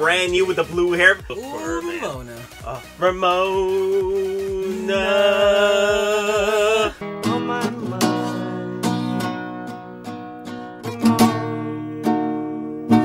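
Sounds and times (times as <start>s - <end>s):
acoustic guitar played slowly: 0.0s - 13.0s.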